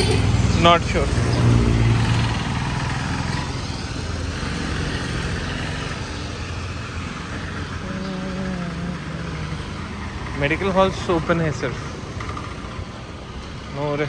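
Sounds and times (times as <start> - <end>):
vehicle engine passing close: 0.0 - 13.4
street traffic noise: 0.0 - 14.0.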